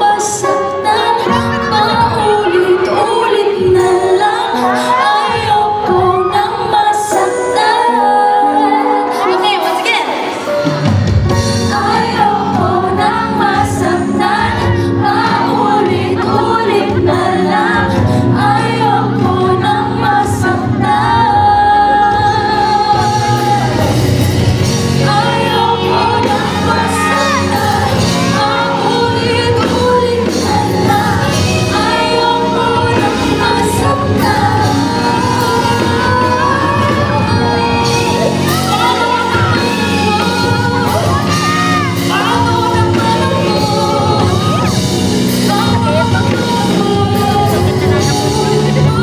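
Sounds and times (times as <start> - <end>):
woman singing: 0.0 - 10.6, 11.3 - 49.0
band accompaniment: 0.0 - 49.0.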